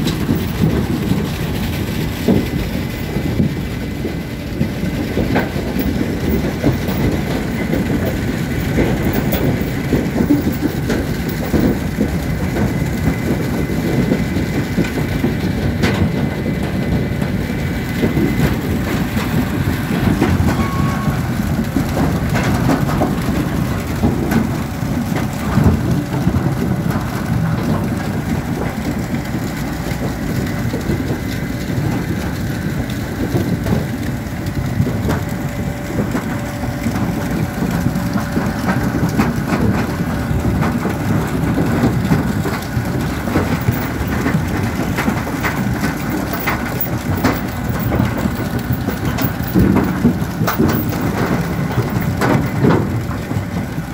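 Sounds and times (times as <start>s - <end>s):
harvester running: 0.0s - 53.9s.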